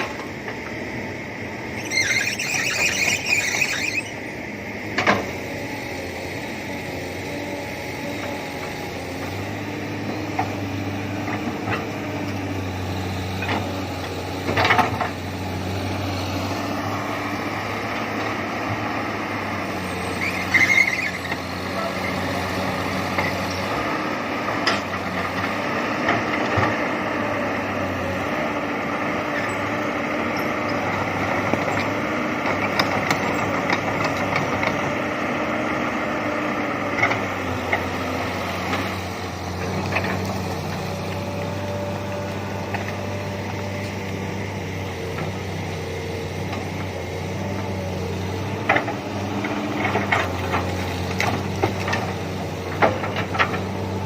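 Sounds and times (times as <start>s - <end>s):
excavator diesel engine running: 0.0s - 54.0s
excavator squeal: 1.5s - 51.6s.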